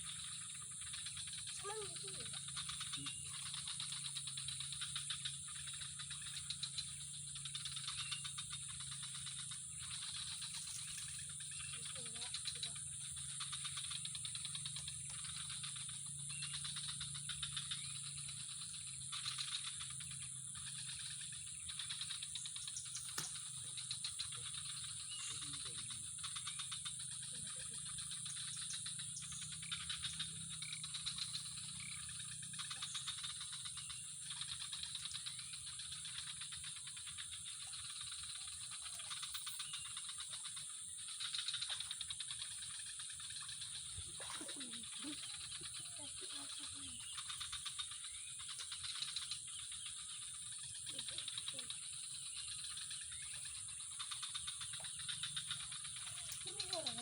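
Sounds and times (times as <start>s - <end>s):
insects calling: 0.0s - 57.0s.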